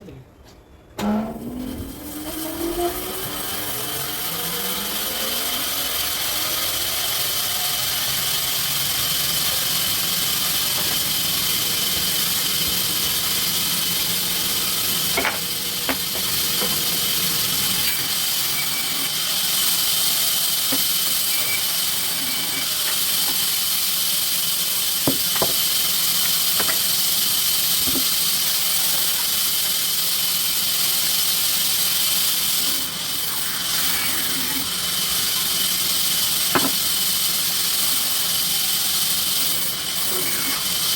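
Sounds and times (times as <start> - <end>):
sawmill saw whining: 1.0 - 40.9.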